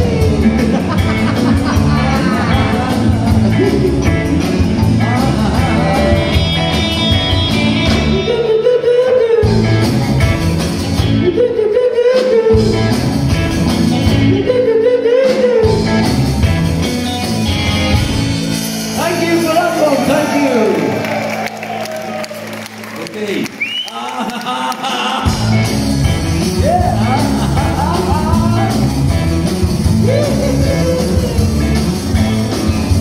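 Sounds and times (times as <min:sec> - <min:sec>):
live rock and roll band: 0:00.0 - 0:33.0.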